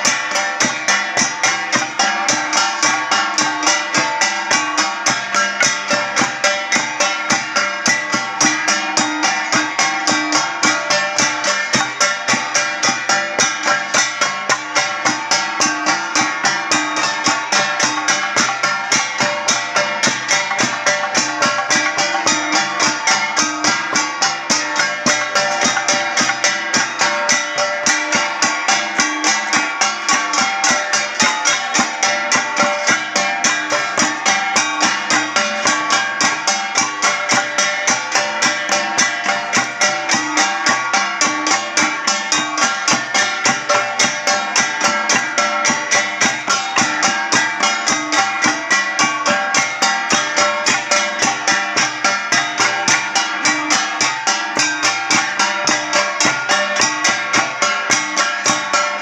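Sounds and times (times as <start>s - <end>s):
drum: 0.0s - 59.0s
gongs struck in fast beat: 0.0s - 59.0s.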